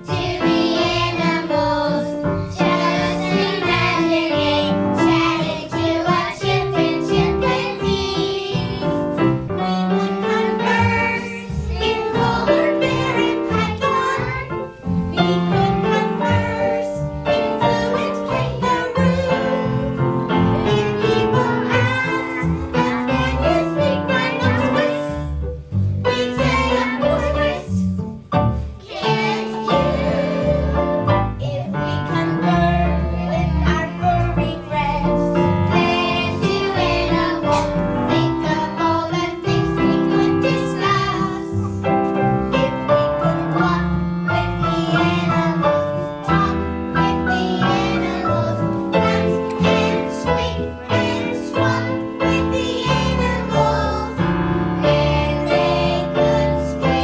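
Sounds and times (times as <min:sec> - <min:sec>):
upbeat children's song with singing: 0:00.0 - 0:57.0.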